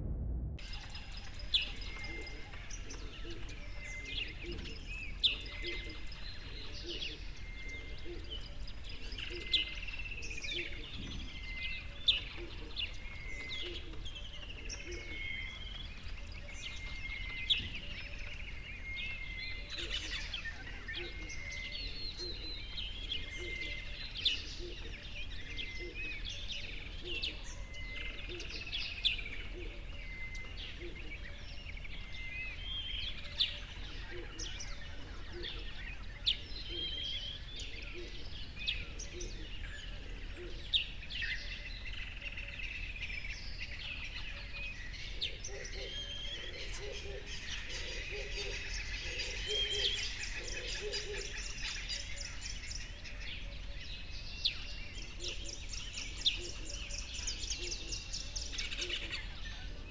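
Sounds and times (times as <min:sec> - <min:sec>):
small birds chirping: 0:00.6 - 0:59.9.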